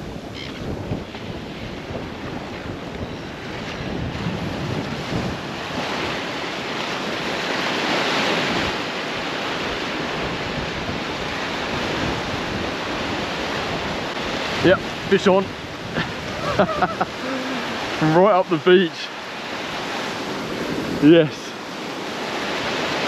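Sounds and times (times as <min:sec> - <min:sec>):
wind on microphone: 0:00.0 - 0:18.2, 0:19.3 - 0:23.0
surf washing through shallow water: 0:00.0 - 0:23.0.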